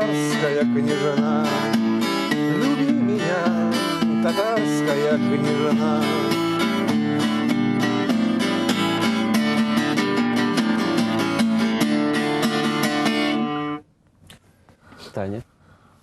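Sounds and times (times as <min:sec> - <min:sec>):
acoustic guitar strumming chords: 0:00.0 - 0:13.9.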